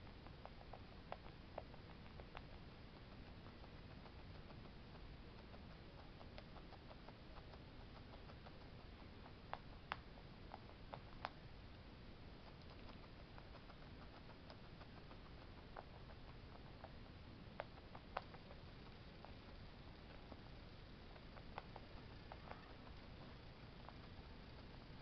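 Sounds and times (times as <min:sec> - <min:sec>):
guinea pig chewing: 0:00.0 - 0:25.0.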